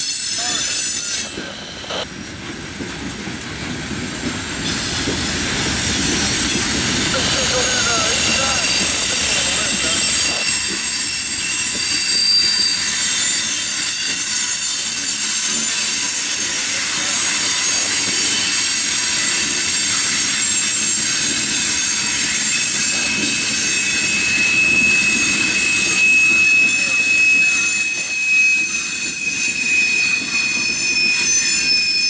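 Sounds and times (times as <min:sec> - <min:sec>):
freight train rumble: 0:00.0 - 0:32.0
train wheels squealing on rails: 0:00.0 - 0:32.0.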